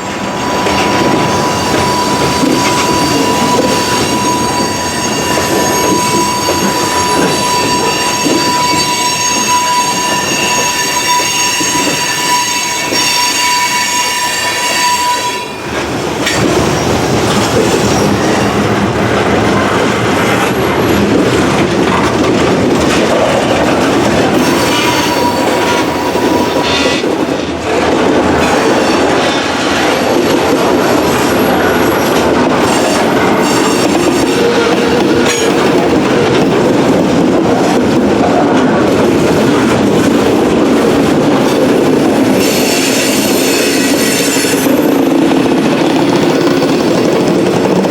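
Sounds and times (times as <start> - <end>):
train wheels squealing: 0.0 - 18.8, 22.8 - 27.5, 28.3 - 36.5, 37.4 - 47.9
train cars clattering over track: 0.0 - 47.9.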